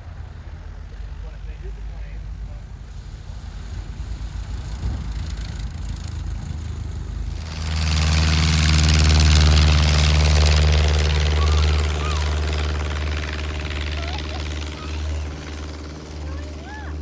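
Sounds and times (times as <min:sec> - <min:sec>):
light aircraft piston engine droning: 0:00.0 - 0:17.0.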